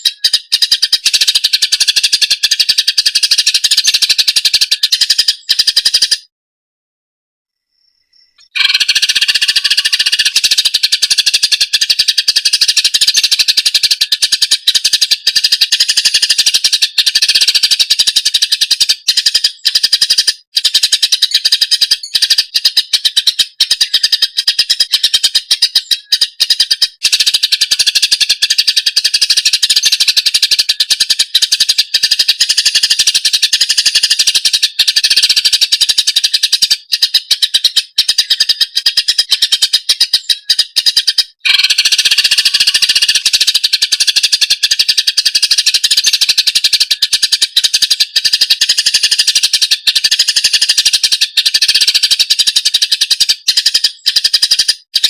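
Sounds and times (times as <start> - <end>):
bird chattering song: 0.0 - 6.3, 8.0 - 55.0.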